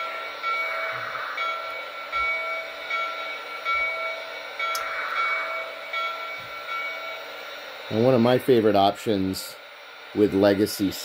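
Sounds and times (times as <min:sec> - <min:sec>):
model train bell ringing: 0:00.0 - 0:09.6
steam hiss: 0:00.0 - 0:11.0.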